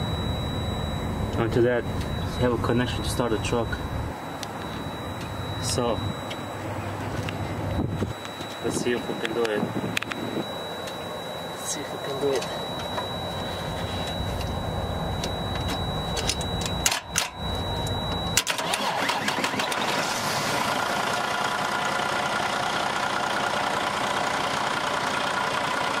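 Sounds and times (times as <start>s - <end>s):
diesel engine cranking: 0.0s - 22.5s
engine running steadily: 0.0s - 26.0s.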